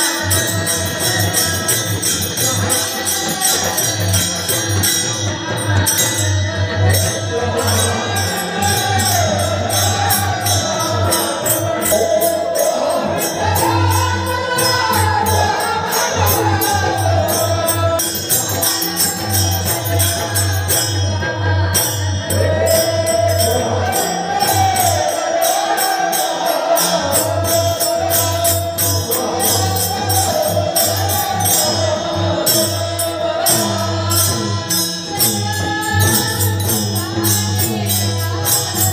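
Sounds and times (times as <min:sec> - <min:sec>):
jingling percussion: 0:00.0 - 0:38.9
person singing: 0:00.0 - 0:38.9.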